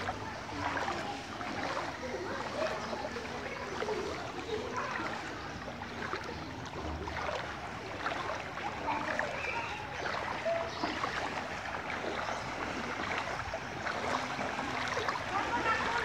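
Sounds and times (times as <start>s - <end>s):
people wading through water: 0.0s - 16.0s.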